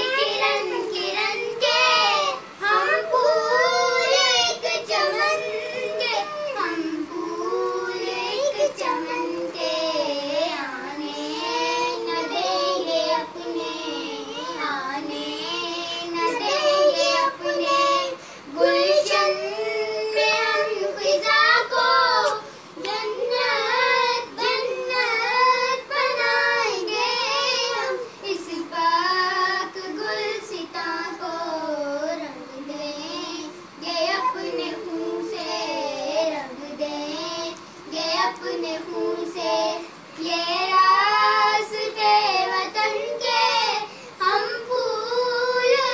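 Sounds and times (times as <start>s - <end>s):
child singing: 0.0s - 45.9s.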